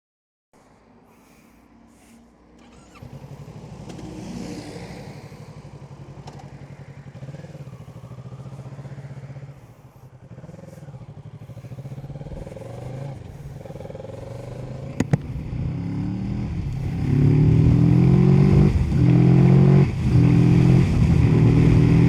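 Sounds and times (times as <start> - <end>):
motorcycle engine running: 2.6 - 22.0.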